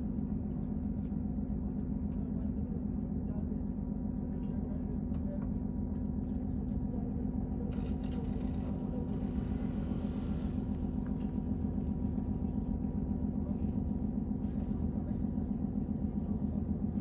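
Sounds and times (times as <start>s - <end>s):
low mechanical hum and rumble: 0.0s - 17.0s.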